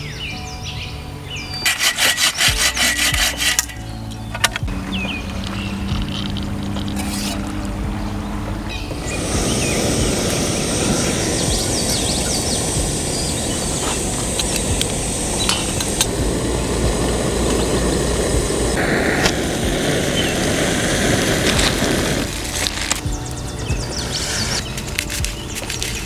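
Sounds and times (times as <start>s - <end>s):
small birds chirping: 0.0s - 18.8s, 20.0s - 26.0s
steady rushing noise: 1.1s - 26.0s.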